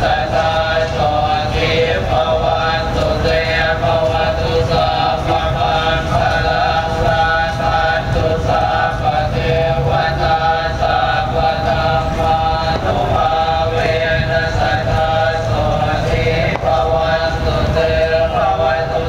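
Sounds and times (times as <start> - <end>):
group chanting: 0.0 - 19.0.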